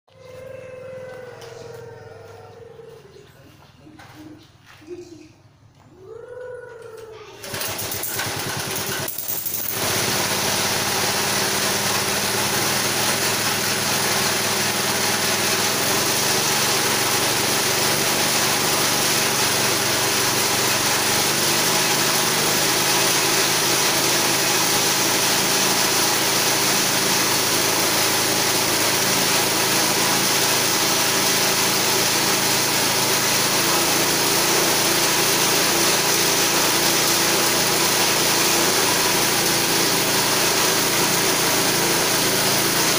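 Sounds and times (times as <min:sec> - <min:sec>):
small petrol engine running: 0:07.4 - 0:42.9.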